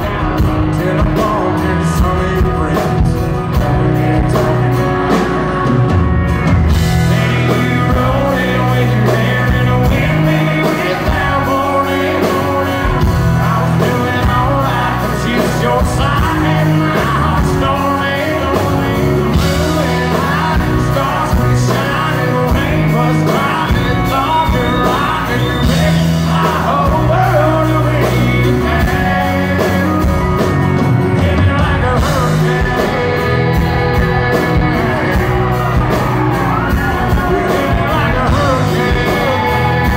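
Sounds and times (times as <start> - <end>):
man singing lead vocal: 0.0 - 5.9, 6.7 - 39.9
drums: 0.0 - 39.9
electric bass: 0.0 - 39.9
pedal steel guitar: 0.0 - 39.9
strummed acoustic guitar: 0.0 - 39.9.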